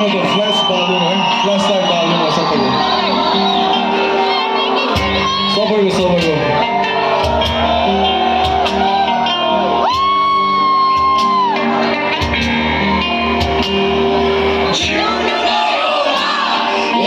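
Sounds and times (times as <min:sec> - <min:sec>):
live band playing amplified music: 0:00.0 - 0:17.0.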